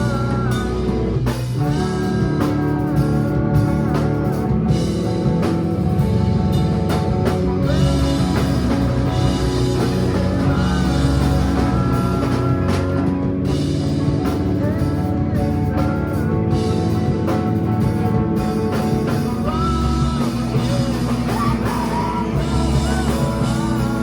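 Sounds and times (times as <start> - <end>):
bending guitar line: 0.0 - 24.0
rock band playing: 0.0 - 24.0.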